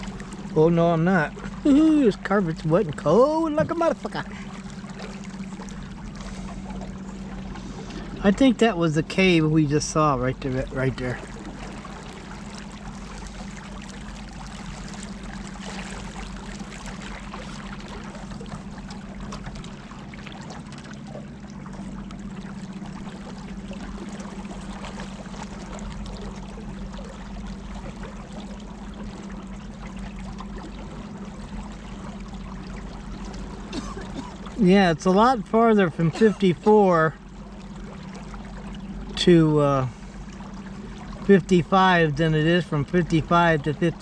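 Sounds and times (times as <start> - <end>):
motorboat engine drone: 0.0 - 44.0
water rushing past hull: 0.0 - 44.0.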